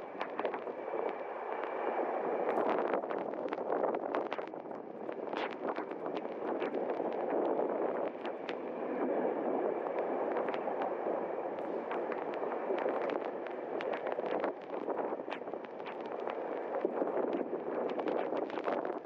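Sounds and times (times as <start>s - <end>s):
wind buffeting microphone: 2.5s - 19.0s.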